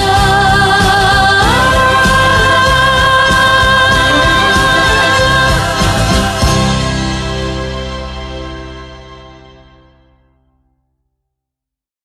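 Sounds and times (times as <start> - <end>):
pop song closing chord: 0.0 - 9.9.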